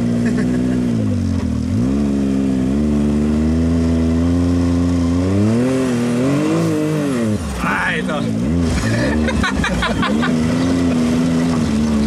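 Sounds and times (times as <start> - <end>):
turbocharged engine revving: 0.0 - 12.0.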